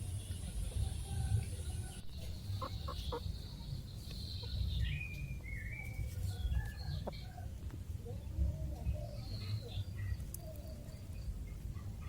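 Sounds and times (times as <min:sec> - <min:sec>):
chickens clucking: 0:00.2 - 0:11.0.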